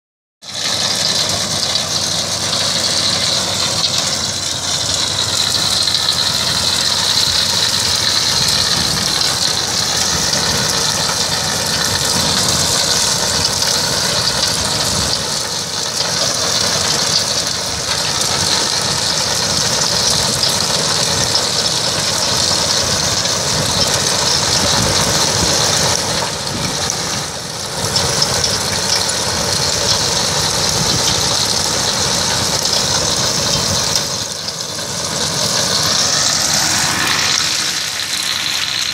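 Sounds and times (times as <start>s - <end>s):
tractor engine running: 0.4s - 38.9s
digger elevator rattling: 0.5s - 38.9s.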